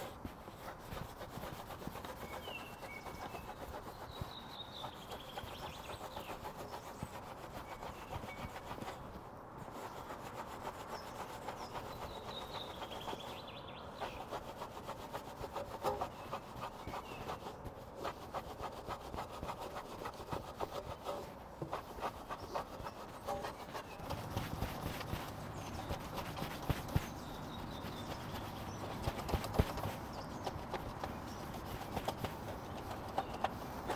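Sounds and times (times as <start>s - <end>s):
wet rubbing strokes on wheel: 0.0s - 33.9s.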